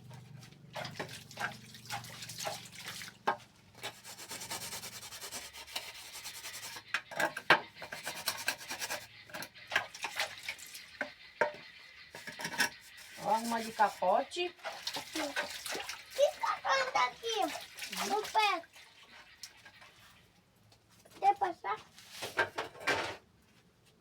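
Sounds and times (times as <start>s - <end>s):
rubbing and scraping: 0.0s - 11.0s, 12.0s - 20.0s, 21.0s - 23.2s.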